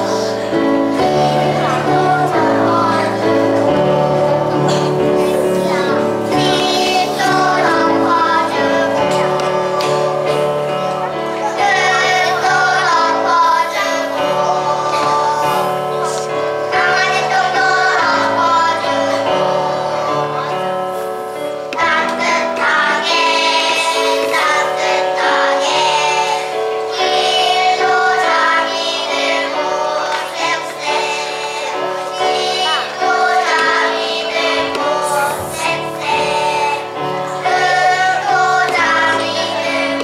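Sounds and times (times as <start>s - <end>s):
children singing: 0.0s - 40.0s
instrumental accompaniment: 0.0s - 40.0s.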